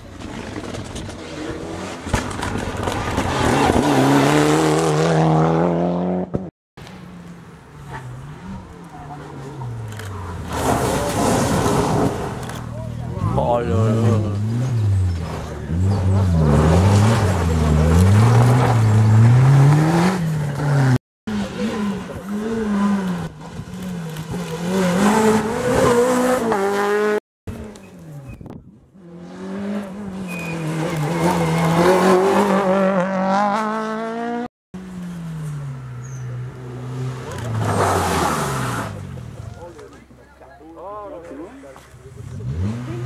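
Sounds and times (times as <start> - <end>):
rally car engines revving: 0.2 - 6.5, 7.7 - 28.4, 29.0 - 40.2, 41.2 - 43.0.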